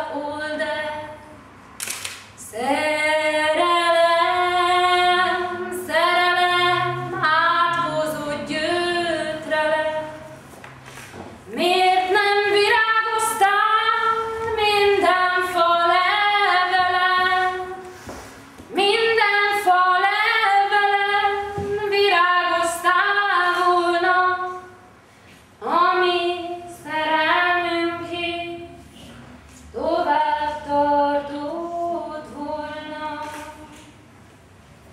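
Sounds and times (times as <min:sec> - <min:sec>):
woman singing unaccompanied: 0:00.0 - 0:01.4, 0:02.4 - 0:10.4, 0:11.5 - 0:17.8, 0:18.7 - 0:24.9, 0:25.6 - 0:28.8, 0:29.8 - 0:33.8.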